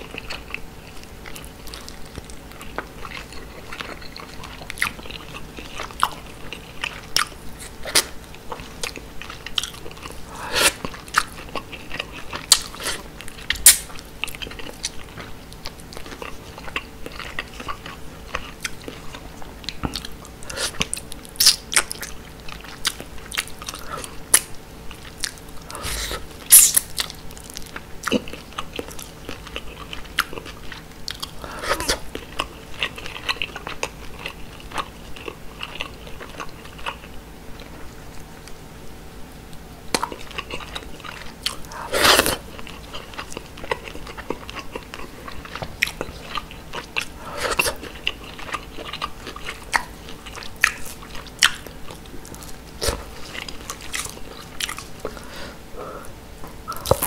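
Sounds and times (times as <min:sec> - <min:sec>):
close chewing with wet clicks: 0:00.0 - 0:25.8, 0:26.5 - 0:38.6, 0:39.5 - 0:41.8, 0:42.5 - 0:55.2
faint steady hum: 0:00.0 - 0:57.0.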